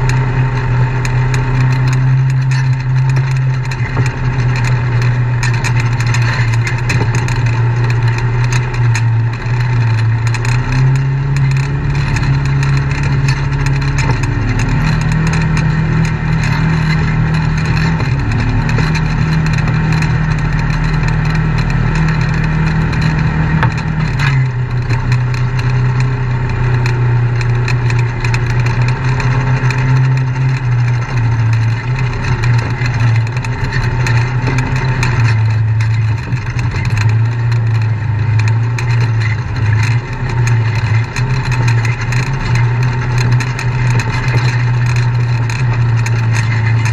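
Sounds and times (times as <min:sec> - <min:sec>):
utility vehicle engine running: 0:00.0 - 0:46.9.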